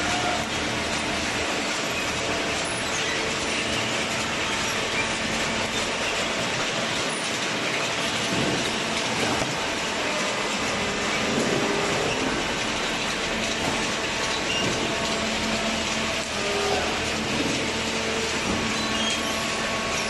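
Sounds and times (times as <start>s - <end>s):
baling press mechanical noise: 0.0s - 20.0s.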